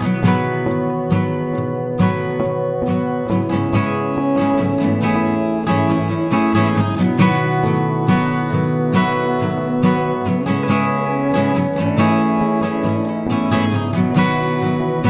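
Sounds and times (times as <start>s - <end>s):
plucked string instrument: 0.0s - 15.0s.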